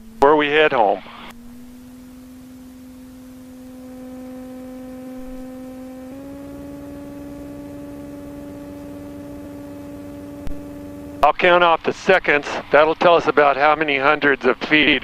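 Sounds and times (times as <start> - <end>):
airplane engine droning: 0.0 - 15.0.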